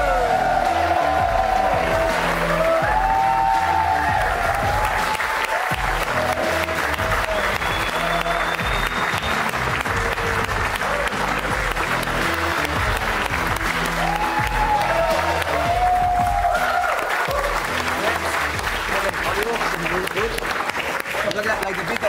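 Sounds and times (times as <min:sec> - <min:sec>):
background music with bass line: 0:00.0 - 0:20.6
audience clapping: 0:00.0 - 0:22.0.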